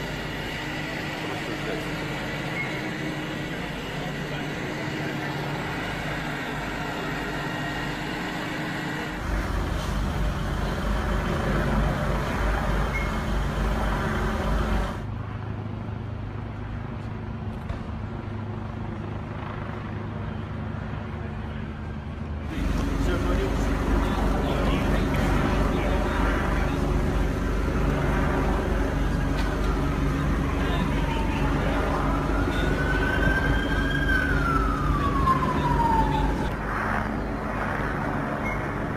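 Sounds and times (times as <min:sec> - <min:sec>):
street traffic: 0:00.0 - 0:38.9.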